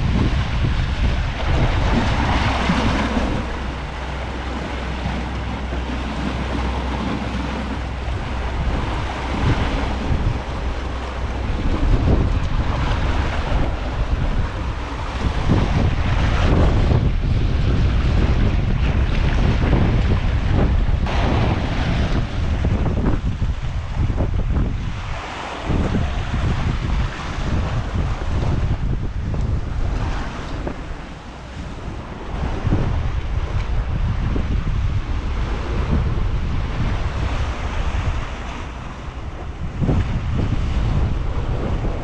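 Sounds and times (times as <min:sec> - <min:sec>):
surf washing against rocks: 0:00.0 - 0:42.0
wind buffeting microphone: 0:00.0 - 0:42.0.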